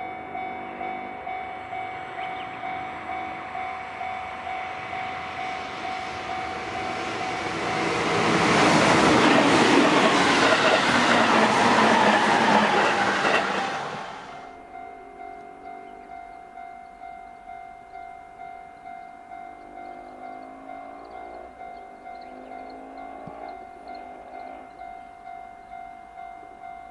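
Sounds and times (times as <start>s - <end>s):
level crossing alarm ringing: 0.0s - 26.9s
train passing on rails: 0.0s - 26.9s.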